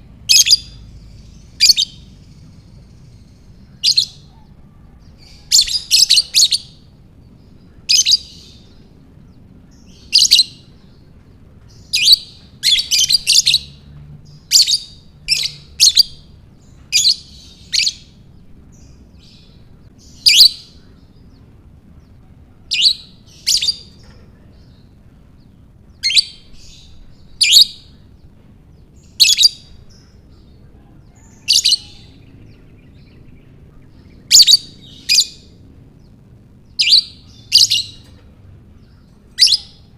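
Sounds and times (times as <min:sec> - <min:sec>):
bird chirping high-pitched: 0:00.2 - 0:11.1, 0:11.7 - 0:21.5, 0:22.6 - 0:25.0, 0:25.9 - 0:39.9.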